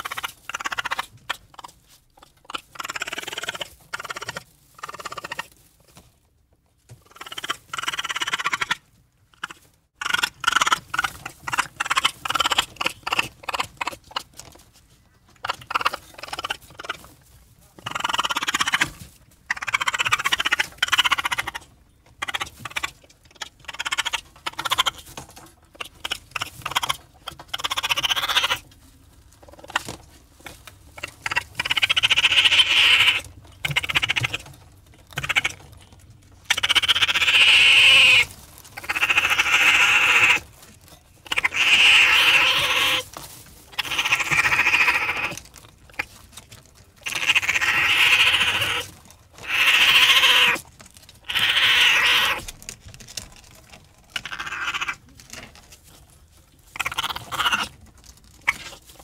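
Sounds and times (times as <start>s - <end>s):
raccoon calling: 0.0s - 5.6s, 7.0s - 17.2s, 17.8s - 28.7s, 29.4s - 40.6s, 41.2s - 46.2s, 47.0s - 52.8s, 54.1s - 55.4s, 56.6s - 59.0s.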